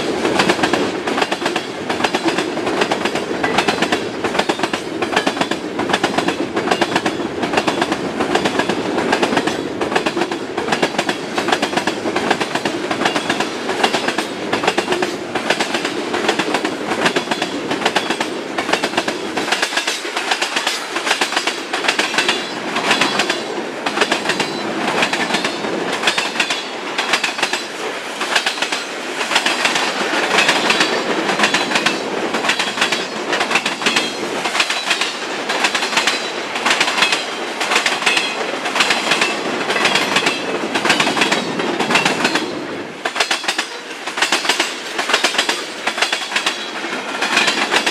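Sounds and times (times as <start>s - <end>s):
train rumble: 0.0s - 47.9s
train wheels clicking over rail joints: 0.0s - 47.9s.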